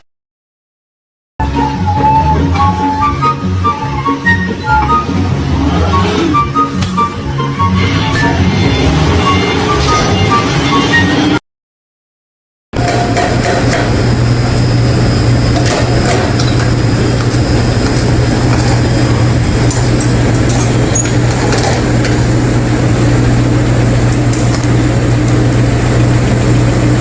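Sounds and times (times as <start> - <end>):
heavy machine humming: 1.4 - 11.4, 12.8 - 27.0.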